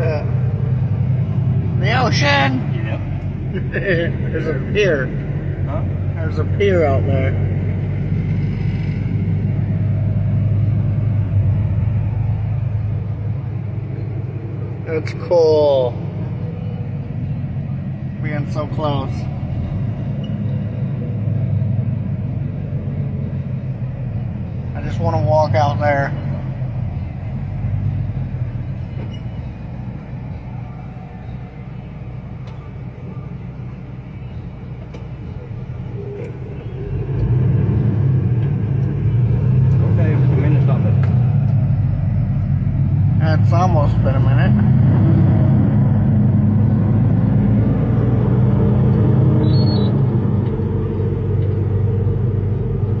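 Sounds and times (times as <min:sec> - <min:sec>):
vehicle engine and road noise: 0:00.0 - 0:53.0.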